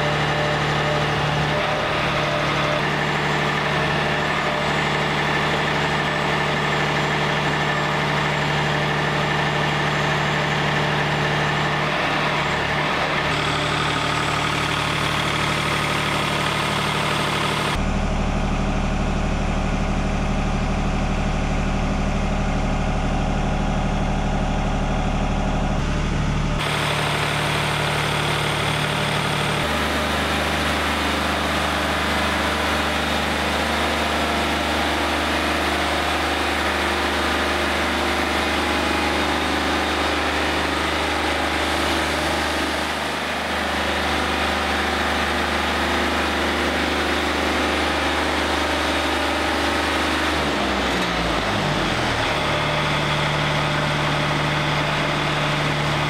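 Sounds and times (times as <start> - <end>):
sawmill engine drone: 0.0 - 56.0.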